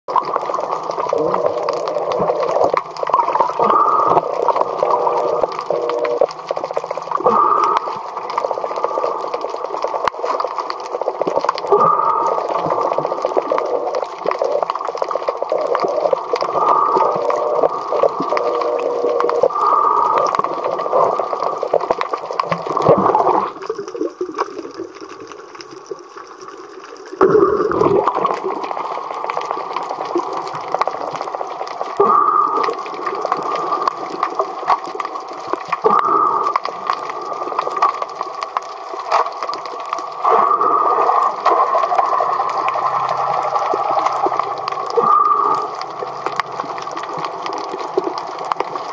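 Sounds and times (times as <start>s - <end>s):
muffled underwater water noise: 0.1s - 48.9s.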